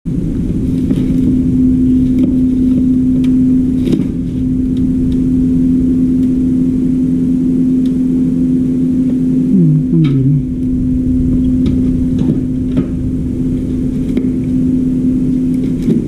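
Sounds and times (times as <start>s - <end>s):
low machine hum: 0.1s - 16.0s.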